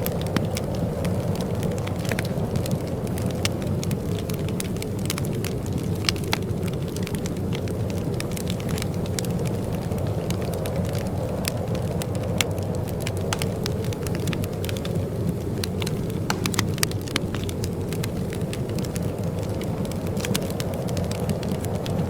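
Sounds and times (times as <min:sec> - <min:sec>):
low rumble of burning: 0:00.0 - 0:22.0
wood fire crackling: 0:00.0 - 0:22.0.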